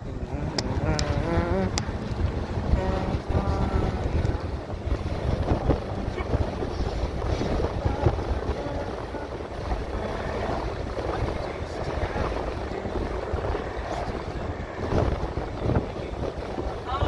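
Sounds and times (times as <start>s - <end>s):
car road noise rumble: 0.0s - 17.0s
wind buffeting microphone: 0.0s - 17.0s.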